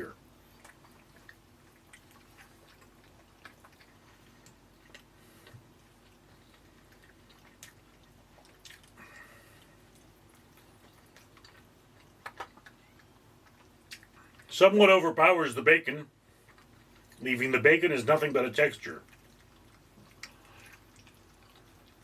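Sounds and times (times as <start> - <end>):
man chewing with mouth clicks: 0.0 - 14.5, 16.1 - 17.4, 18.9 - 22.0
quiet room hum: 0.0 - 22.0.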